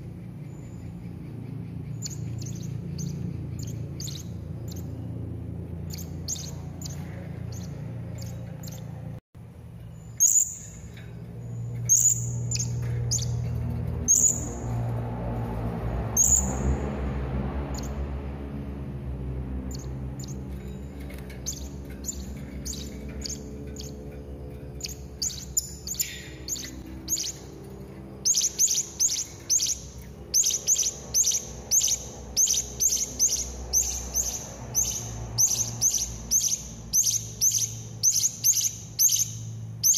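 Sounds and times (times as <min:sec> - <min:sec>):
low steady hum: 0:00.0 - 0:39.8.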